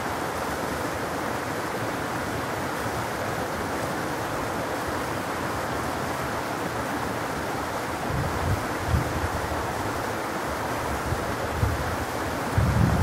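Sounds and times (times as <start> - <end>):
stream babbling over rocks: 0.0 - 13.0.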